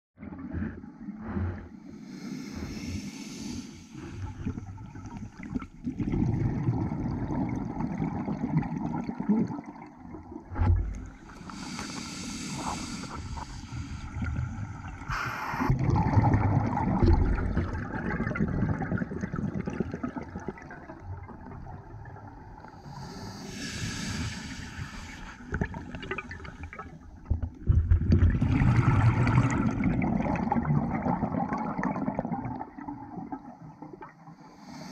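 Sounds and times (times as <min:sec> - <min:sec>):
low rumble of moving water: 0:00.2 - 0:34.9
regulator bubbles gurgling: 0:04.0 - 0:11.8, 0:12.8 - 0:23.0, 0:23.9 - 0:34.5.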